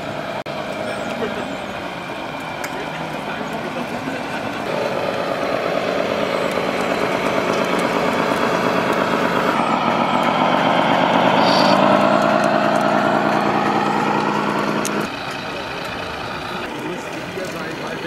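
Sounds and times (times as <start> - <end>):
simulated diesel truck engine: 0.0 - 18.0.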